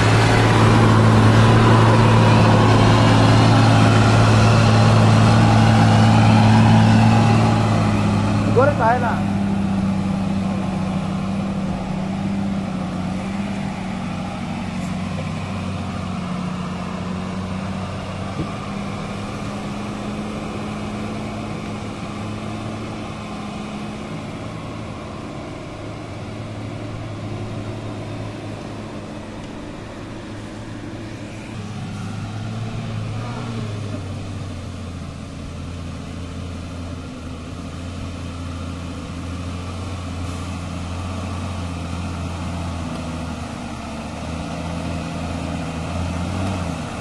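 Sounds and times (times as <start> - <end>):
diesel truck engine under load: 0.0 - 47.0.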